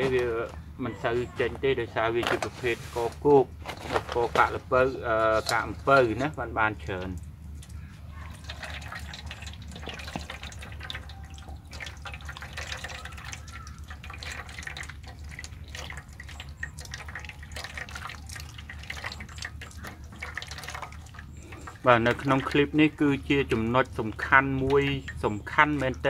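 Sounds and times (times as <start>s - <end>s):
wet fruit pulp squelching: 0.0s - 26.0s
juice dripping into steel bowl: 4.2s - 26.0s.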